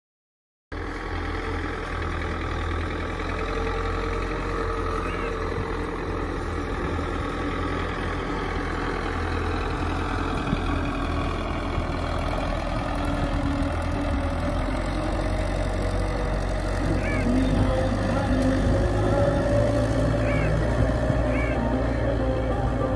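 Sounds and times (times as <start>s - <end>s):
tractor diesel engine running: 0.7s - 22.9s.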